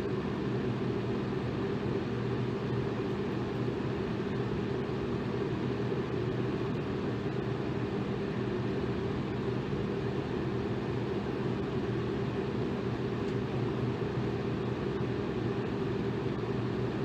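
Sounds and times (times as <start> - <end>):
electric fan whooshing: 0.0 - 17.0.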